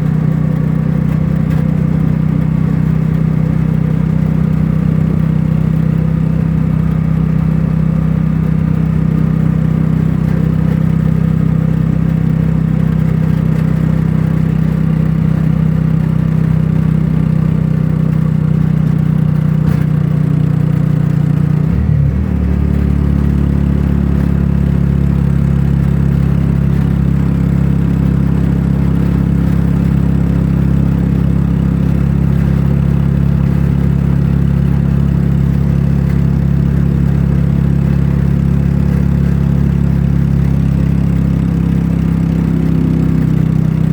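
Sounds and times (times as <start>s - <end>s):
vehicle engine humming: 0.0s - 43.9s.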